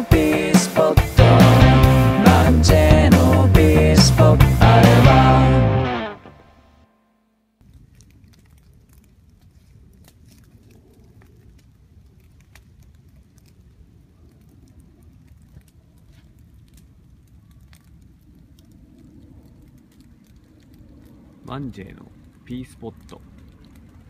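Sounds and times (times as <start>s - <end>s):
low fire rumble: 0.0s - 6.0s, 7.6s - 24.0s
fire crackling and popping: 0.0s - 6.2s, 7.6s - 24.0s.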